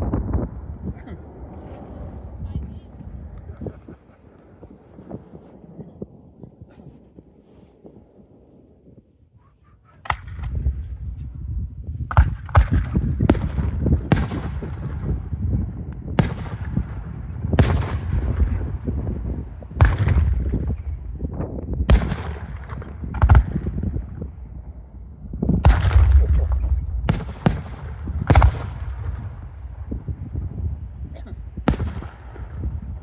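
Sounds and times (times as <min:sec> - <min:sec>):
continuous low rumble: 0:00.0 - 0:33.0.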